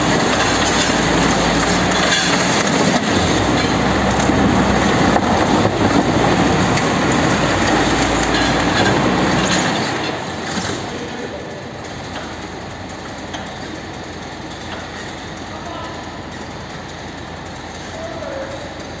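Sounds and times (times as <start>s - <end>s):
machinery grinding and clattering: 0.0s - 19.0s.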